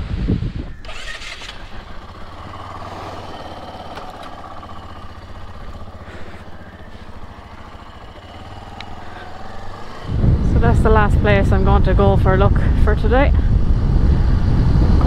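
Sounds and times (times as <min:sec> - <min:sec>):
motorcycle engine idling: 0:00.5 - 0:15.0.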